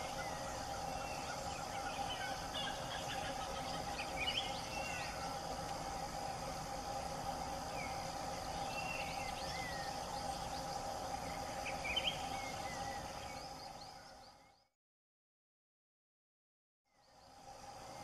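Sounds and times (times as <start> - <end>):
insect drone: 0.0 - 14.8, 16.9 - 18.0.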